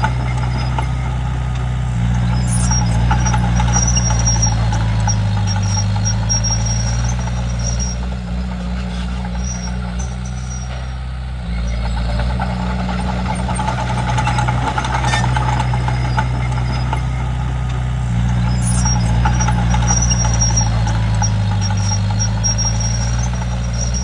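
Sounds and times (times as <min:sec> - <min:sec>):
bulldozer diesel engine running: 0:00.0 - 0:24.0
high squeaks: 0:00.0 - 0:24.0.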